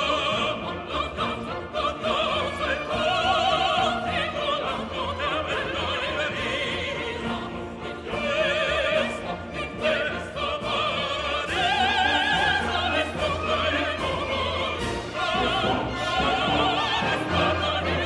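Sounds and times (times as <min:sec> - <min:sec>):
operatic singing with vibrato: 0:00.0 - 0:18.0
orchestra playing: 0:00.0 - 0:18.0.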